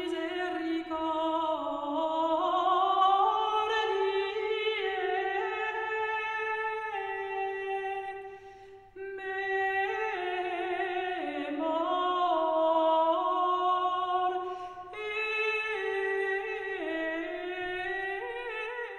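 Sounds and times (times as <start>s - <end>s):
voices singing a slow chant: 0.0s - 15.2s.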